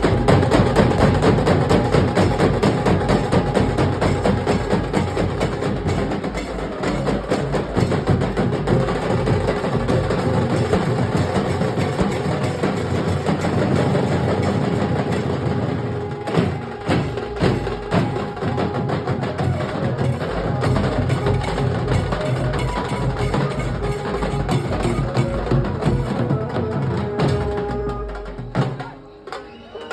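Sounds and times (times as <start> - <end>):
dhol drums beaten with sticks: 0.0 - 29.9.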